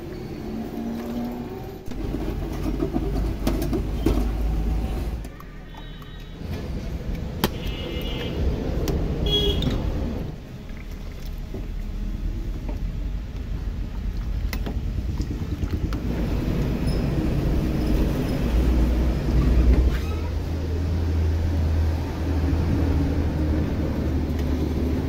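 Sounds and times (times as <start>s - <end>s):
road noise: 0.0s - 25.0s
vehicle engine rumbling: 0.0s - 25.0s.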